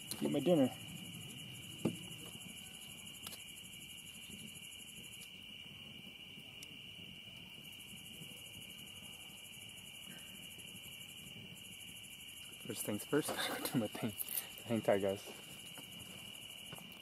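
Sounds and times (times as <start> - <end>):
crickets trilling: 0.0 - 17.0
fast-pulsing insect call: 0.0 - 17.0.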